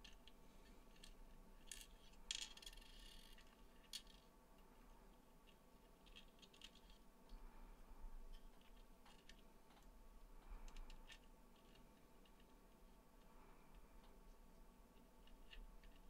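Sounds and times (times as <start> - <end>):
small metal parts clicking and scraping: 0.0 - 4.3, 5.1 - 7.4, 8.2 - 14.3, 14.9 - 16.0.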